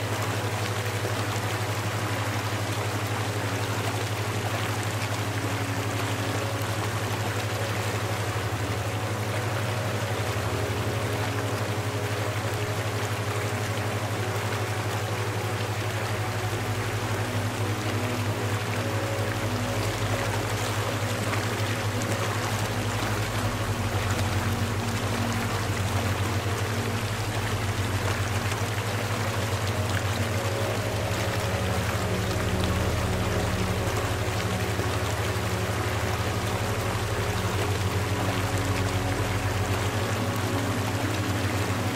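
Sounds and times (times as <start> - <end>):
flowing water: 0.0 - 41.9
low steady hum: 0.0 - 41.9.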